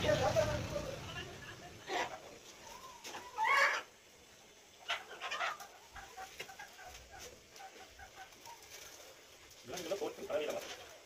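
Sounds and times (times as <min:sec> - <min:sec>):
chickens clucking: 0:01.6 - 0:11.0.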